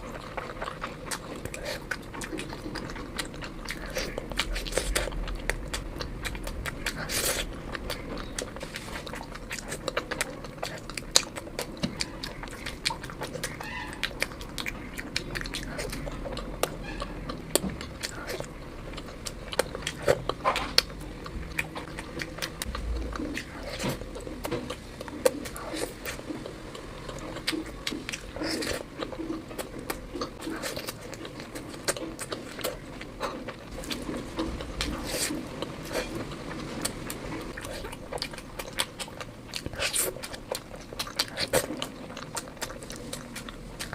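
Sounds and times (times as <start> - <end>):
person chewing: 0.0 - 43.9.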